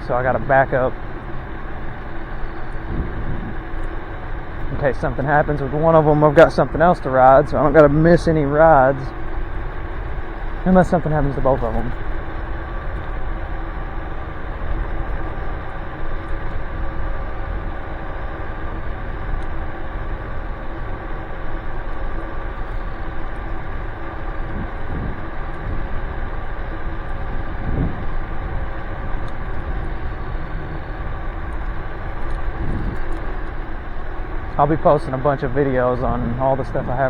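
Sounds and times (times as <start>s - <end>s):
electric scooter motor whine: 0.0s - 37.0s
wind and tyres rumbling: 0.0s - 37.0s.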